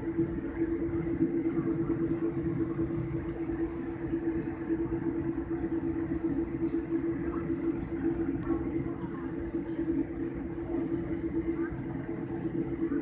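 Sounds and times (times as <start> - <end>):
jet engines humming: 0.0 - 13.0
low rumble of rolling aircraft: 0.0 - 13.0.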